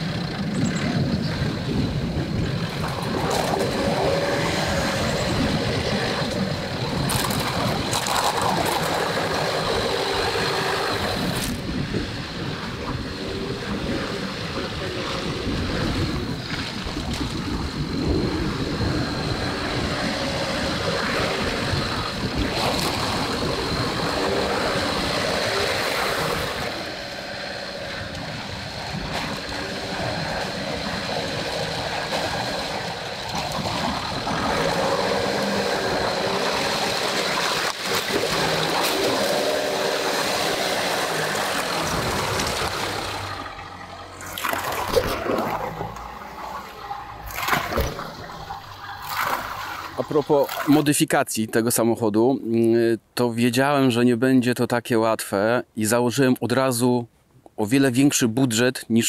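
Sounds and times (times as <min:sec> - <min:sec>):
vehicle engine: 0:00.0 - 0:50.3
water splashing and rushing: 0:00.0 - 0:51.0.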